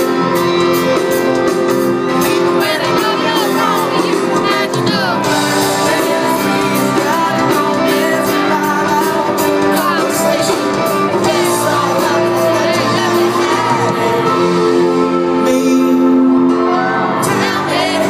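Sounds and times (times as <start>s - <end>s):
live pop-rock band with vocals: 0.0s - 18.0s.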